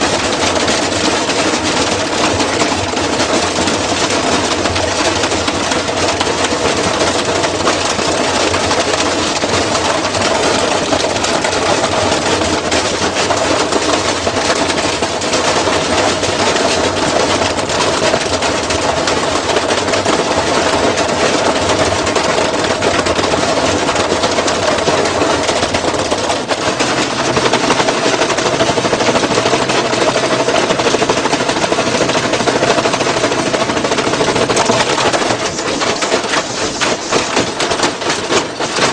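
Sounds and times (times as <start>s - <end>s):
washing machine drone: 0.0s - 38.9s
washing machine rattling and banging: 0.0s - 38.9s.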